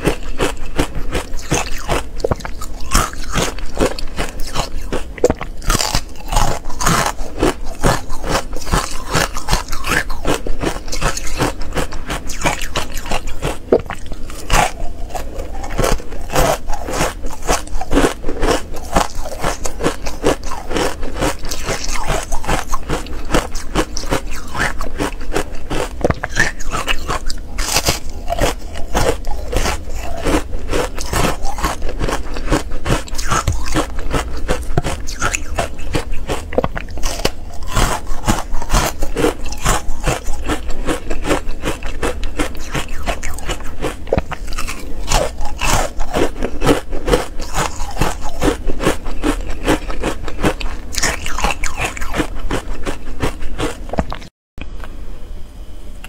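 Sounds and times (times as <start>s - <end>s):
crunching and chewing ice: 0.0s - 54.3s.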